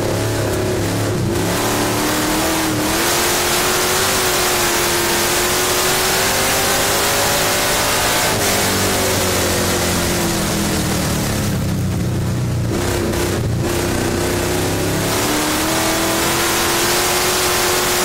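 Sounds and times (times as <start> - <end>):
dirt road noise: 0.0 - 18.0
race car engine under load: 0.0 - 18.0.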